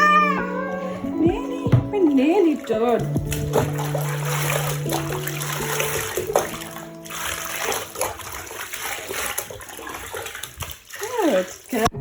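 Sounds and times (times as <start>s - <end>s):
water running and splashing: 1.2s - 12.0s.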